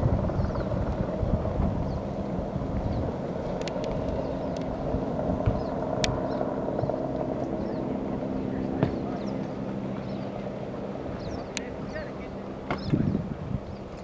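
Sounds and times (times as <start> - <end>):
helicopter rotor and engine drone: 0.0 - 14.0.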